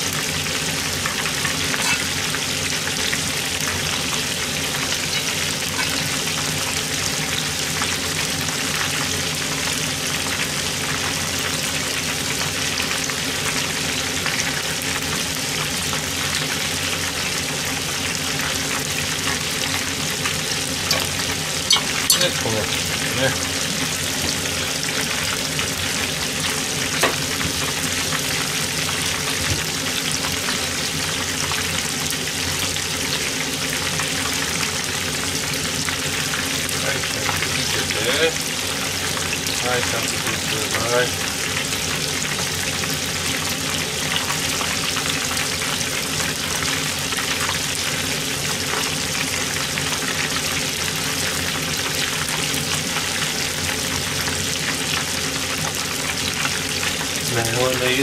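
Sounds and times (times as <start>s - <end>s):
food deep-frying in oil: 0.0s - 58.0s.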